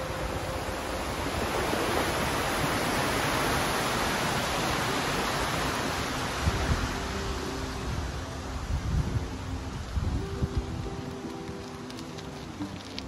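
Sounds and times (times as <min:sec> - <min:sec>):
stream rushing over rocks: 0:00.0 - 0:13.0
wind on microphone: 0:00.0 - 0:13.0.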